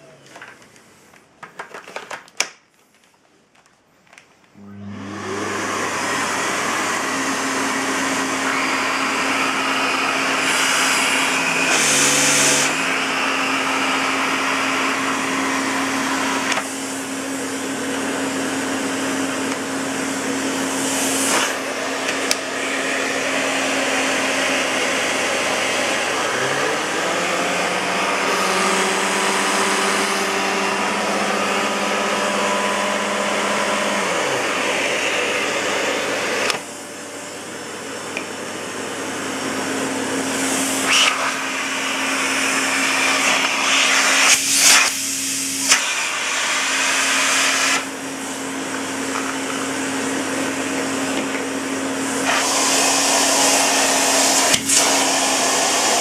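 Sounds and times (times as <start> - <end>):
vacuum cleaner running: 4.6 - 56.0.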